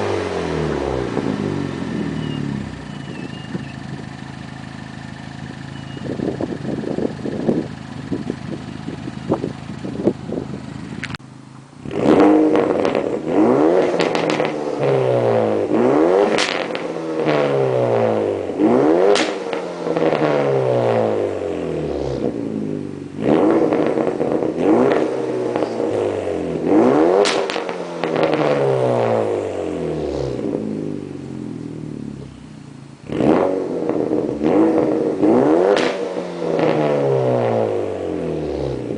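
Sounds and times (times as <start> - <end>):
car engine idling and revving: 0.0 - 38.9
exhaust crackles: 0.0 - 38.9.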